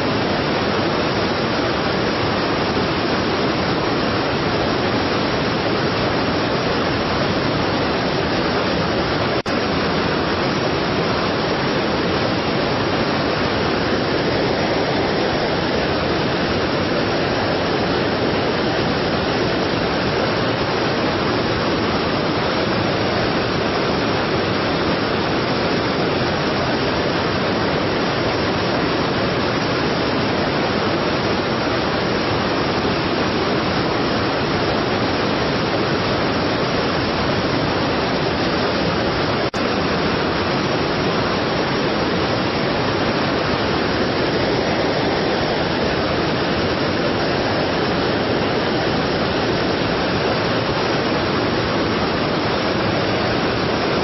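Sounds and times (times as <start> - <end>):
waterfall crashing: 0.0 - 54.0.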